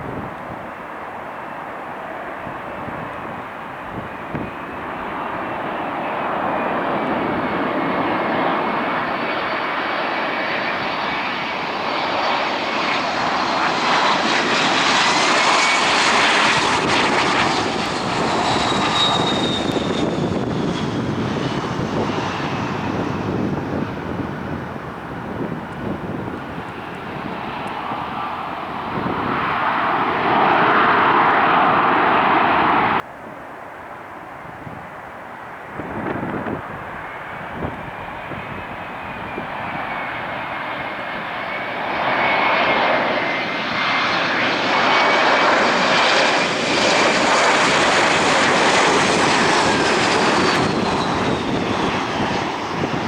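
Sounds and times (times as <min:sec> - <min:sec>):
jet engine whine falling in pitch: 0:00.0 - 0:53.0
jet engines roaring: 0:00.0 - 0:53.0.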